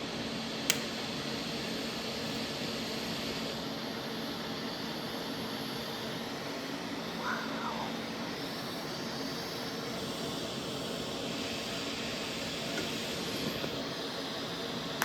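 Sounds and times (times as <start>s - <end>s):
welding hiss: 0.0s - 15.0s.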